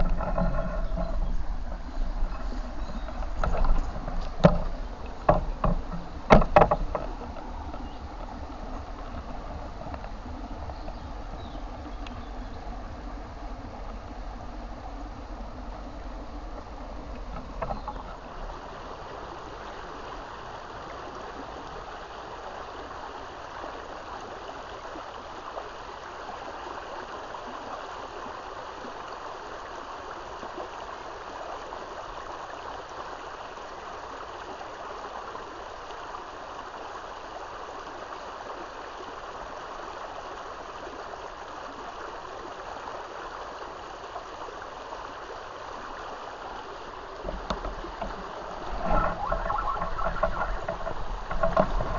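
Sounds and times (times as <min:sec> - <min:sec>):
stream water rushing: 0:00.0 - 0:51.9.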